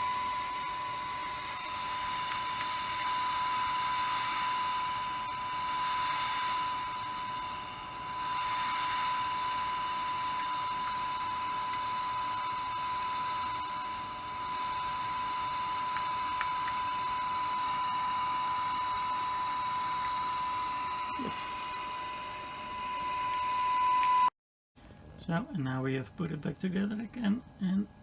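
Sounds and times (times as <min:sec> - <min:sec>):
radio static hiss: 0:00.0 - 0:23.1
constant test tone: 0:00.0 - 0:24.3.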